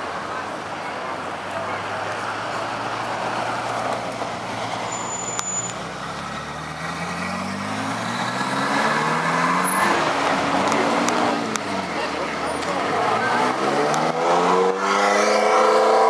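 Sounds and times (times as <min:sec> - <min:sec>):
car engine revving pulling away: 0:01.7 - 0:16.0.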